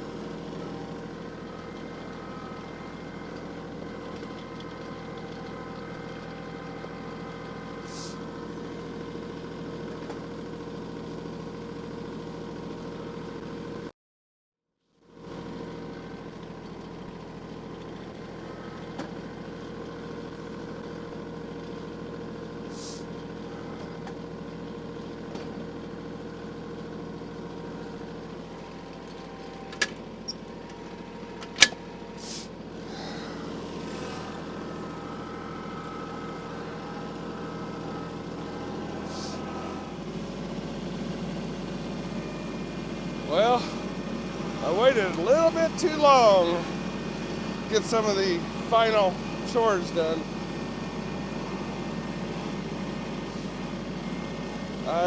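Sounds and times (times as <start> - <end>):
engine running steadily: 0.0 - 13.9, 15.1 - 55.0.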